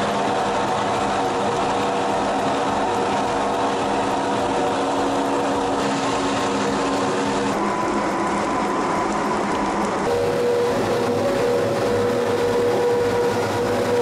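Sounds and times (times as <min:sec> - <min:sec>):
grape crusher machine hum: 0:00.0 - 0:14.0.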